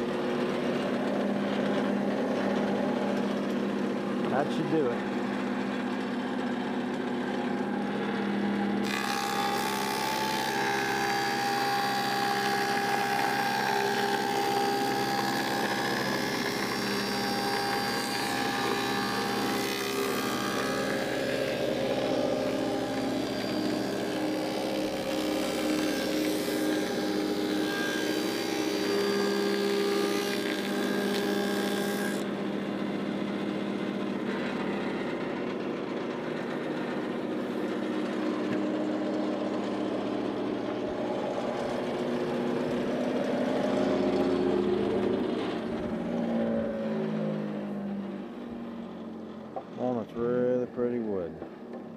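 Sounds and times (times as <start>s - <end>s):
planer cutting wood: 0.0s - 50.6s
thickness planer humming: 0.0s - 51.9s.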